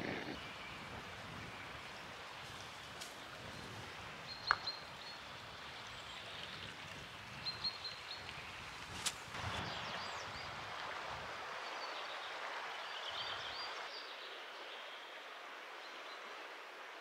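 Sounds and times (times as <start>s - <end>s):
distant water: 0.0s - 17.0s
open air hiss: 0.0s - 17.0s.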